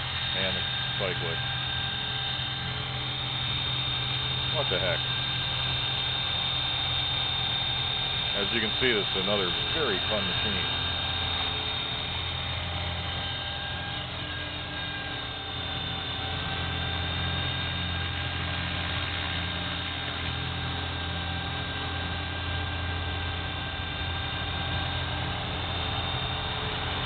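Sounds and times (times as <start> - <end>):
radio-controlled helicopter whine: 0.0 - 27.0
rotor humming: 0.0 - 27.0.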